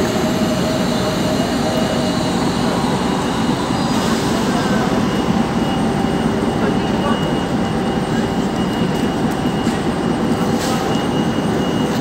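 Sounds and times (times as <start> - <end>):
diesel locomotive idling rumble: 0.0 - 12.0.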